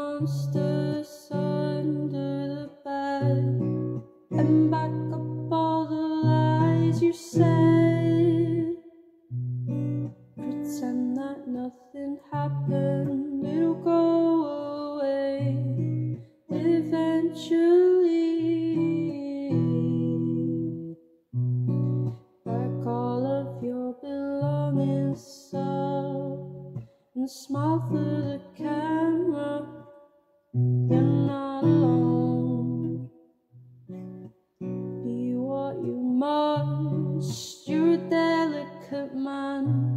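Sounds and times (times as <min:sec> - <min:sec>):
person singing: 0:00.0 - 0:08.9, 0:10.4 - 0:21.0, 0:22.4 - 0:30.2, 0:30.8 - 0:33.1, 0:34.9 - 0:39.9.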